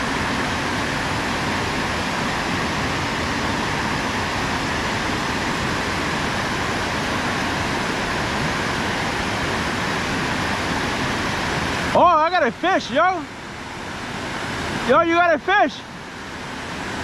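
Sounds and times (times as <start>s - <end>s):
water rushing over dam: 0.0s - 17.0s.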